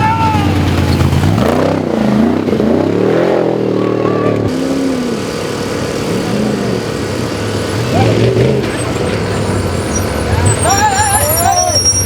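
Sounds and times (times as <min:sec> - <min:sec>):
race vehicle engines revving: 0:00.0 - 0:12.0.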